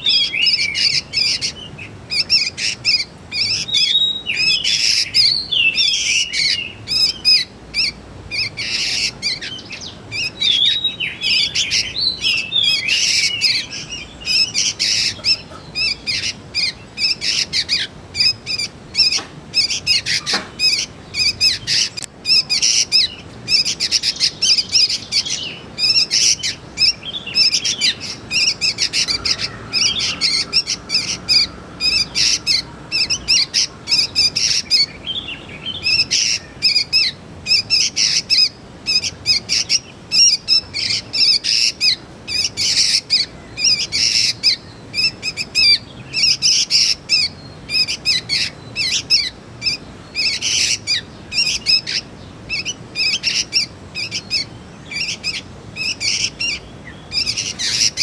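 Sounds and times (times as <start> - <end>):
young birds chirping: 0.0 - 58.0.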